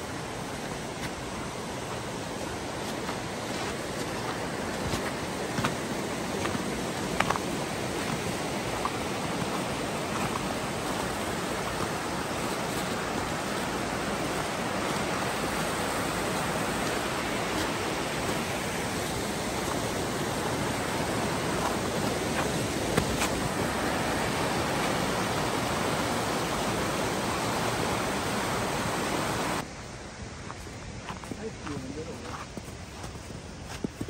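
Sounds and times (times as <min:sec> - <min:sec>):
creek rushing over rocks: 0:00.0 - 0:29.7.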